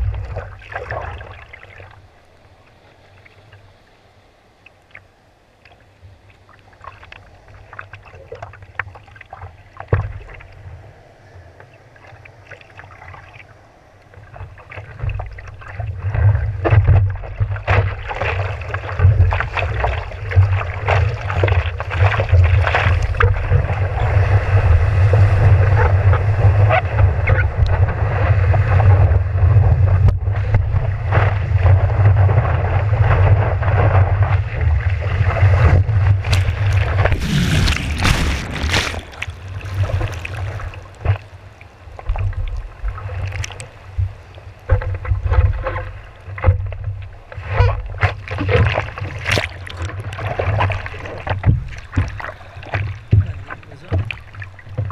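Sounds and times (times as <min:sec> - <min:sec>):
water splashing and lapping: 0:00.0 - 0:03.9, 0:04.6 - 0:54.9
rush of moving water: 0:00.0 - 0:54.9.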